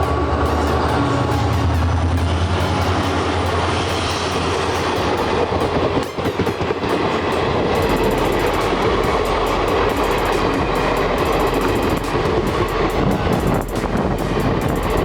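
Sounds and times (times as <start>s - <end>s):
train wheels clickety-clack on rails: 0.0s - 15.0s.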